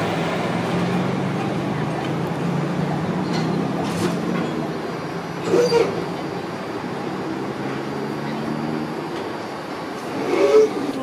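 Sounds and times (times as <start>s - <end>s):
tram humming: 0.0s - 11.0s.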